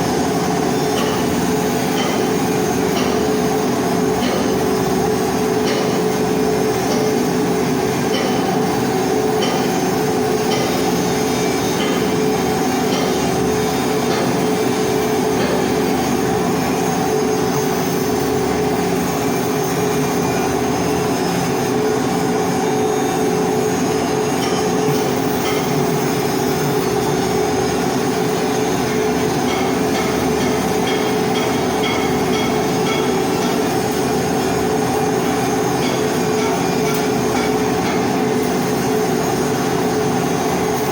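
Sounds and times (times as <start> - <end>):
arc welding hum and hiss: 0.0 - 40.9.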